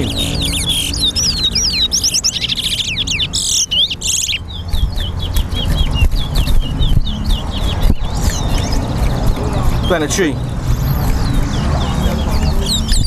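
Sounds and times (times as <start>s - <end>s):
finches singing whistled phrases: 0.0s - 13.0s.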